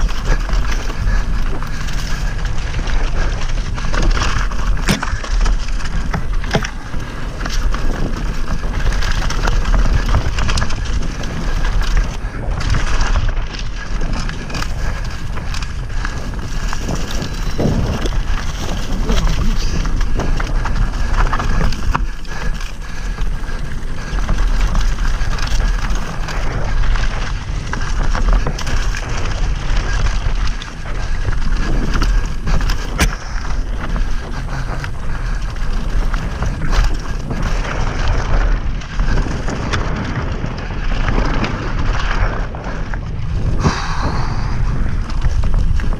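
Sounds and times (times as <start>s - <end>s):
bike knocking and rattling: 0.0s - 45.9s
tyres on dirt: 0.0s - 45.9s
wind buffeting microphone: 0.0s - 45.9s.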